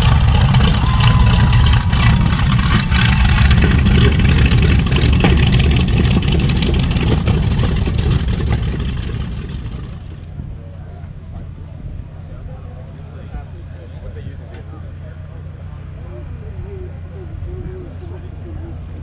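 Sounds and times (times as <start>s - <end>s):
aircraft engines rumbling: 0.0s - 19.0s.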